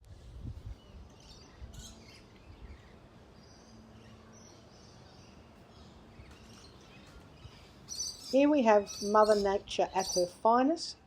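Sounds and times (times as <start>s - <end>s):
faint birds chirping: 0.2s - 11.0s.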